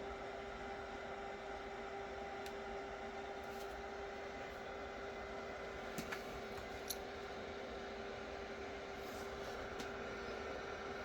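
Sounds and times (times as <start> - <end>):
heater fan running: 0.0 - 11.0
steady hum: 0.0 - 11.0.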